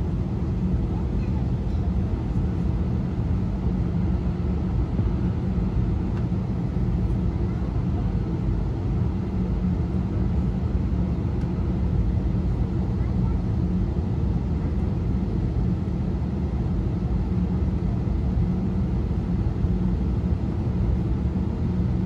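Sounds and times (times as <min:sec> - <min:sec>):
low cabin rumble of jet engines: 0:00.0 - 0:22.0.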